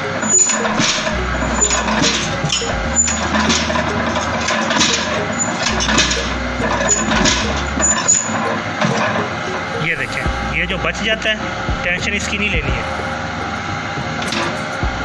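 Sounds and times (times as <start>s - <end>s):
low hum: 0.0s - 15.0s
machinery clattering: 0.0s - 15.0s.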